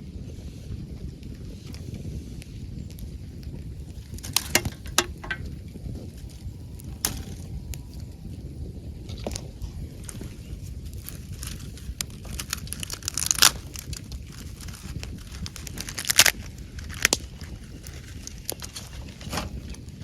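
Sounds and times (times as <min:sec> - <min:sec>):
campfire crackling: 0:00.0 - 0:20.0
sharp pops of fire: 0:02.5 - 0:08.5, 0:09.2 - 0:20.0.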